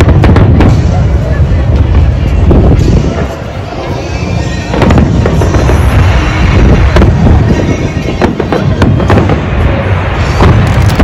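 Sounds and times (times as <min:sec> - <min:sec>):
deep rumble of booms: 0:00.0 - 0:03.4, 0:04.7 - 0:11.0
firework bursts and crackles: 0:00.0 - 0:03.8, 0:04.7 - 0:11.0
music playing: 0:00.0 - 0:11.0.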